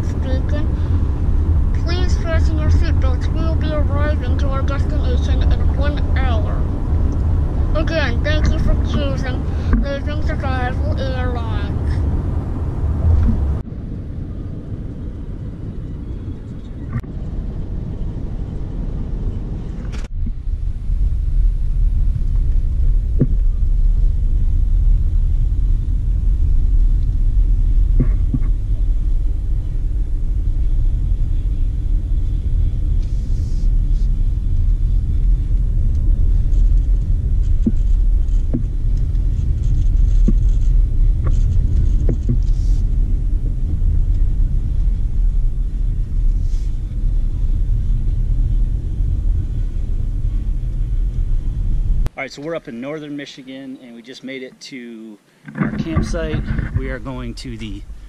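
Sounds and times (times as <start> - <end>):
car road rumble on dirt road: 0.0 - 53.1, 55.3 - 58.0.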